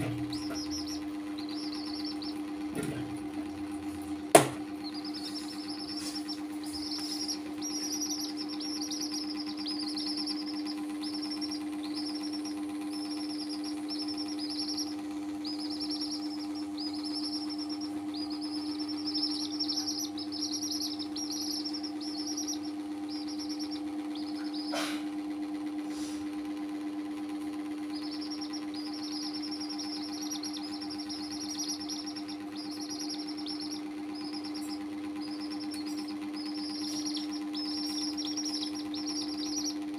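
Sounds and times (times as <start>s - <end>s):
chicks peeping: 0.0s - 39.9s
low hum: 0.0s - 39.9s.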